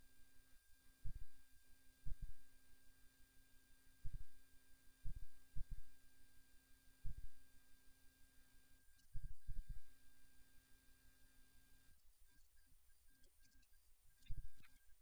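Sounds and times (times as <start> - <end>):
electrical hum with high whine: 0.0 - 15.0.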